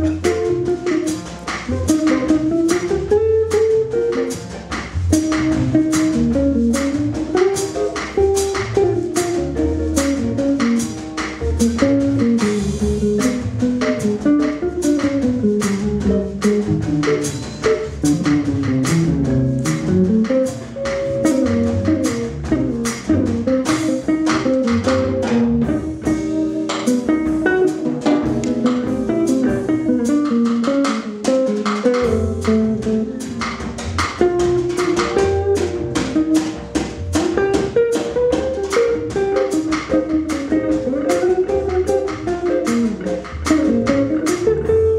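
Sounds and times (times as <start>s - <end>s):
guitar melody: 0.0s - 44.9s
upright bass: 0.0s - 44.9s.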